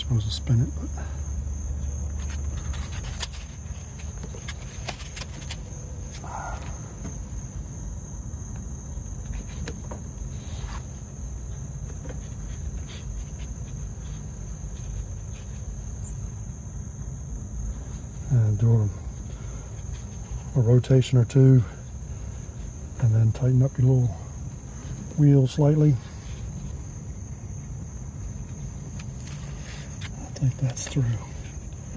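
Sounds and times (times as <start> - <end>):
insects singing: 0.0 - 31.9.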